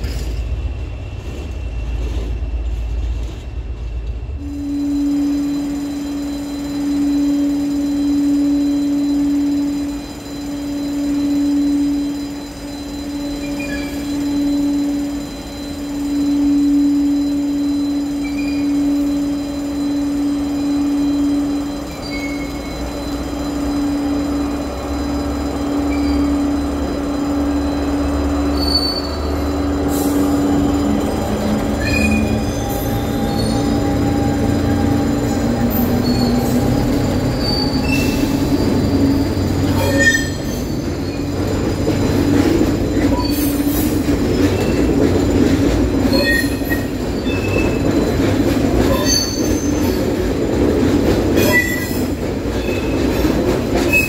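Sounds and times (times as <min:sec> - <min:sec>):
diesel locomotive engine: 0:00.0 - 0:54.0
high-pitched wheel squeals: 0:04.4 - 0:45.0, 0:46.0 - 0:50.2, 0:51.4 - 0:54.0.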